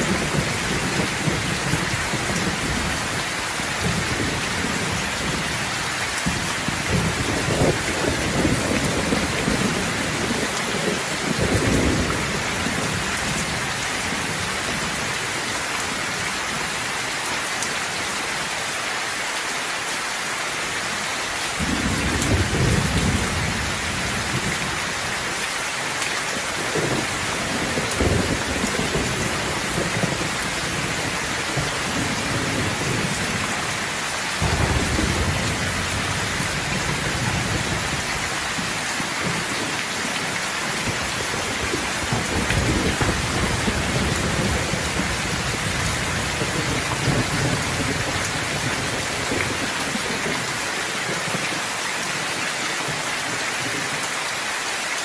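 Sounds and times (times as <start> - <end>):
thunder rumbling: 0.0 - 15.3, 21.5 - 25.4, 26.3 - 51.5
heavy rain hissing: 0.0 - 55.0.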